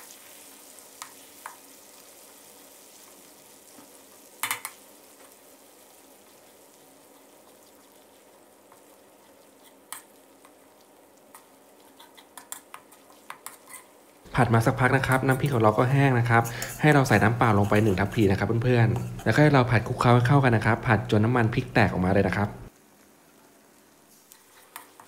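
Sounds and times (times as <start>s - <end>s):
paste sizzling in oil: 0.0s - 22.8s, 23.6s - 25.0s.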